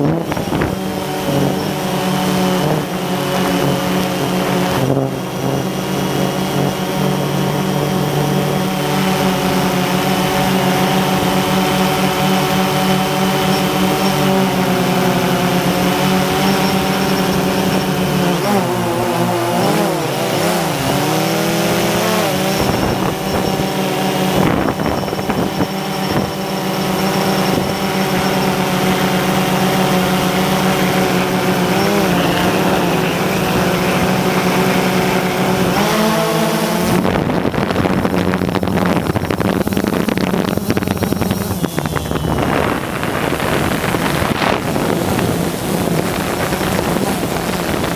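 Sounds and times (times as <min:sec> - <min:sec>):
drone motors whining: 0:00.0 - 0:47.9
rough rushing noise: 0:00.0 - 0:47.9.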